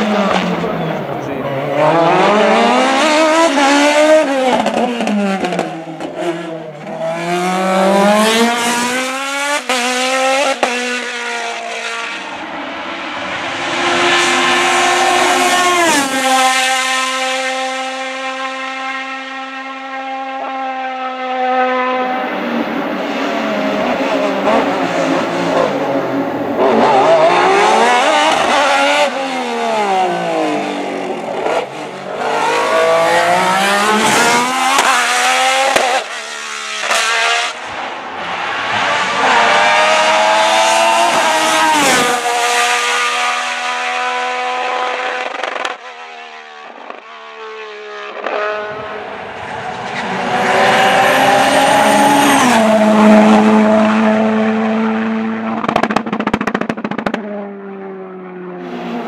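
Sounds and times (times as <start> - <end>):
race car engine revving: 0.0 - 57.6.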